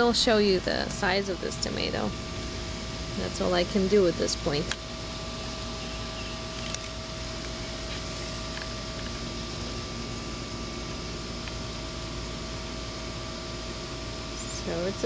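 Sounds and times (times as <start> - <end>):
mechanical whir: 0.0 - 13.2
faint hum tone: 0.0 - 15.0.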